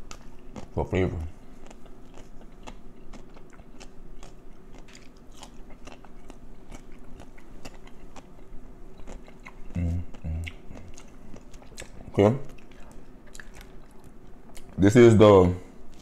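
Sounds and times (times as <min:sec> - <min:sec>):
person chewing crunchy food: 0:00.0 - 0:14.8, 0:15.8 - 0:16.0.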